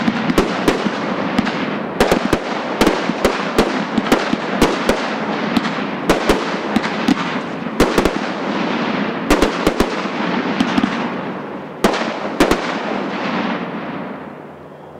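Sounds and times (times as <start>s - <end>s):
fireworks bangs: 0.0s - 14.6s
fireworks crackling: 0.0s - 14.8s.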